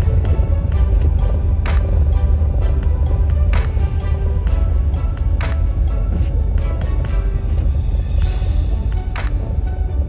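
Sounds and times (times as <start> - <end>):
background music with heavy bass: 0.0 - 10.0.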